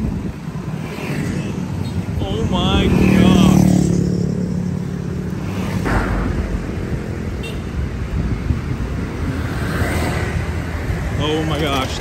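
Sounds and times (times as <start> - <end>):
scooters and cars passing: 0.0 - 12.0
wind rumbling on microphone: 0.0 - 12.0.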